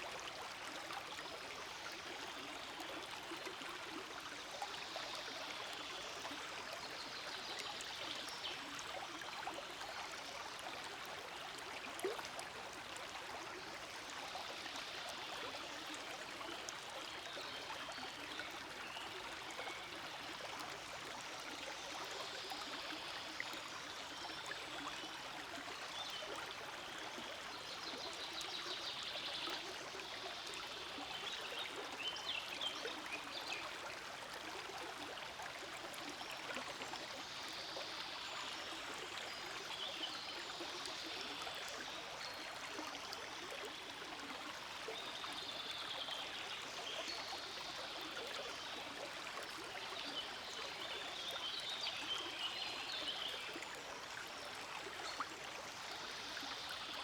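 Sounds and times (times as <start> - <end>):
stream flowing and trickling: 0.0 - 57.0.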